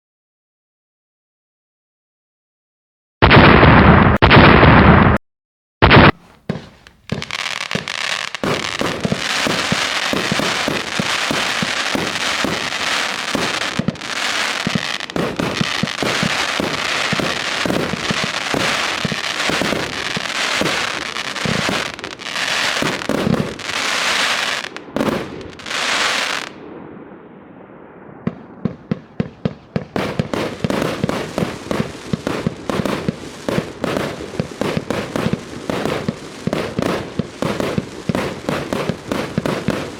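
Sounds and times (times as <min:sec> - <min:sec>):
firework sharp bangs: 0:03.2 - 0:05.2, 0:05.8 - 0:39.9
firework crackling and shots: 0:05.8 - 0:27.2, 0:27.8 - 0:39.9.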